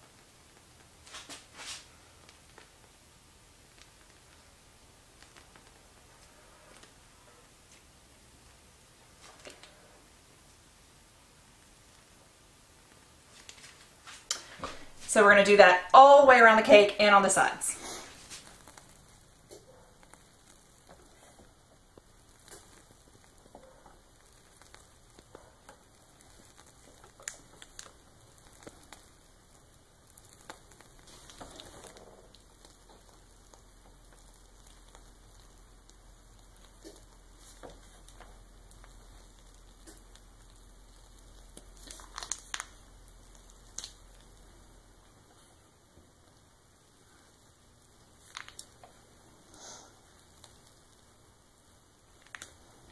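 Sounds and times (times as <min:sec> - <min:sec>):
plastic piping bag crinkling: 0:03.6 - 0:07.0, 0:12.8 - 0:52.9.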